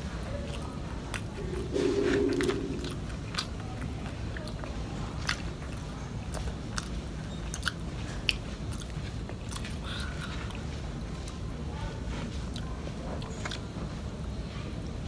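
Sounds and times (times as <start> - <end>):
chewing and crunching: 0.0 - 1.7, 2.8 - 14.8.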